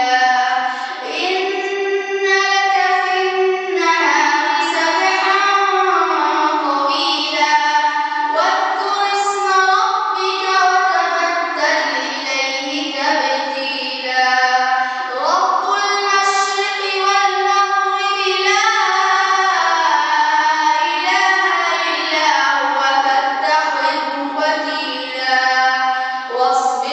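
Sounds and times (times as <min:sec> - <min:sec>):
boy chanting into a microphone: 0:00.0 - 0:26.9.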